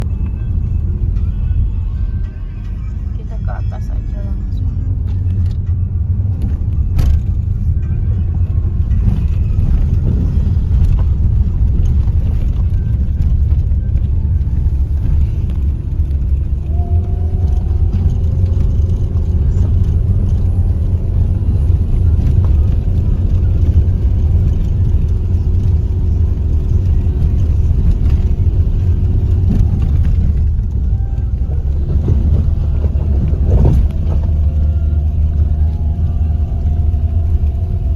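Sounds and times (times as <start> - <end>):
vehicle rumble: 0.0 - 37.9.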